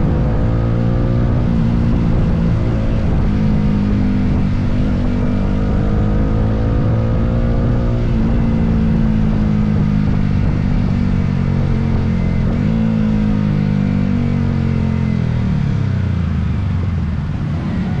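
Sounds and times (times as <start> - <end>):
motorcycle engine shifting gears: 0.0 - 16.2.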